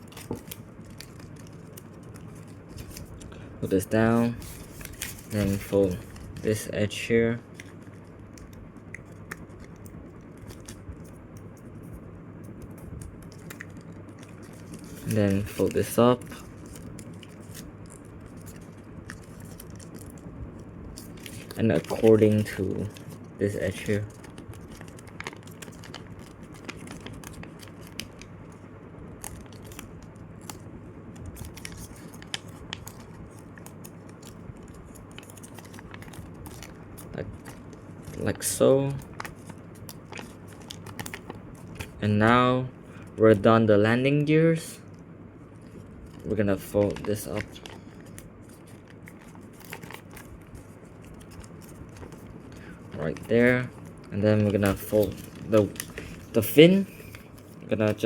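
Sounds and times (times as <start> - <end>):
paper crinkling and creasing: 0.0 - 43.5, 44.8 - 58.0
steady low hum: 0.0 - 58.0.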